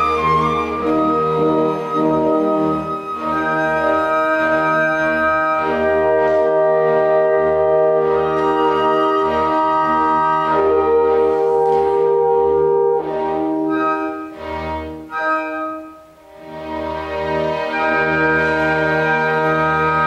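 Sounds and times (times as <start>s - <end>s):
orchestra playing slow chords: 0.0s - 20.0s.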